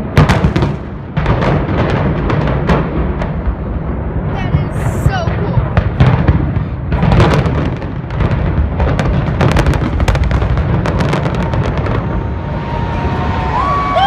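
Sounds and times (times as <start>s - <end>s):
explosive cracks: 0.0s - 13.7s
building collapsing rumble: 0.0s - 14.0s.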